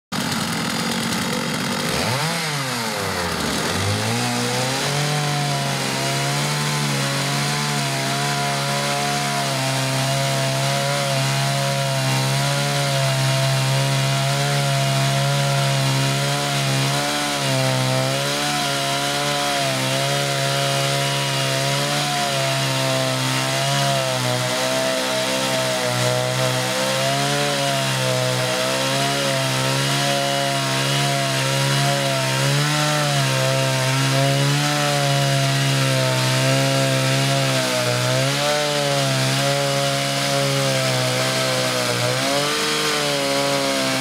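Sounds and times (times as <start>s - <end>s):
chainsaw cutting log: 0.1s - 44.0s.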